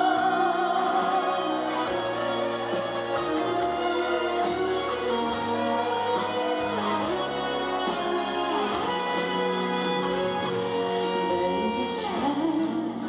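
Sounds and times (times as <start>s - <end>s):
slow instrumental ballad: 0.0s - 13.0s.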